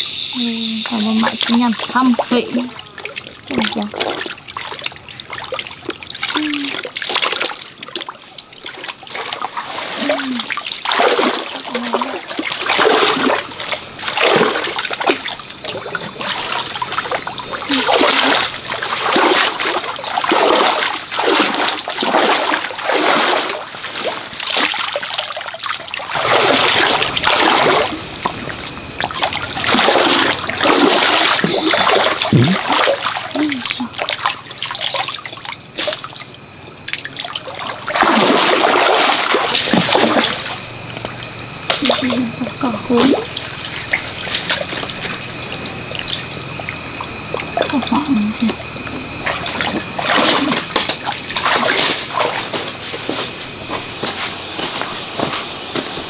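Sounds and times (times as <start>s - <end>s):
stream water splashing: 0.0s - 56.0s.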